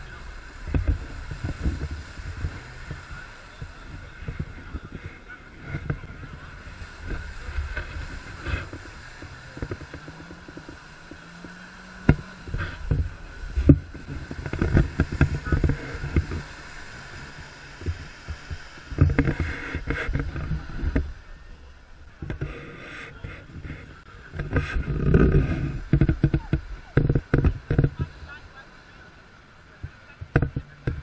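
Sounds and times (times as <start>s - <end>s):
mud and water churning: 0.0s - 31.0s
vehicle engine revving: 0.0s - 31.0s.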